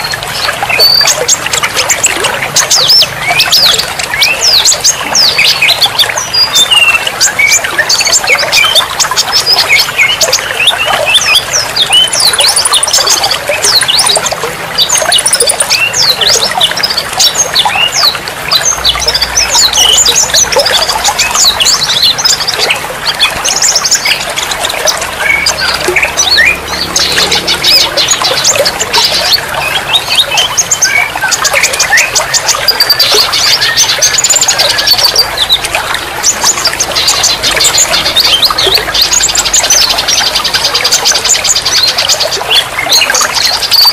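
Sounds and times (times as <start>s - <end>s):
songbirds chirping and trilling: 0.0s - 43.9s
water trickling: 0.0s - 43.9s.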